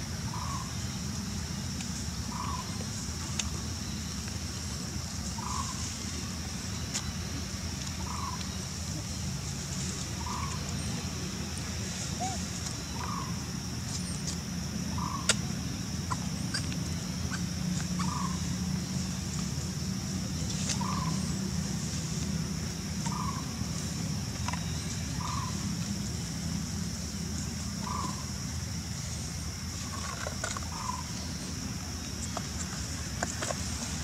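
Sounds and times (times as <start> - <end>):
steady high hiss: 0.0 - 34.0.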